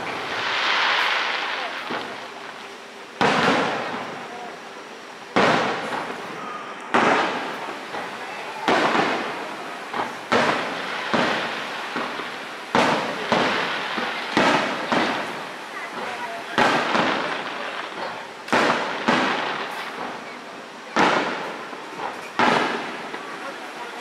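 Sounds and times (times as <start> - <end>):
fireworks booming with echo: 0.0 - 24.0.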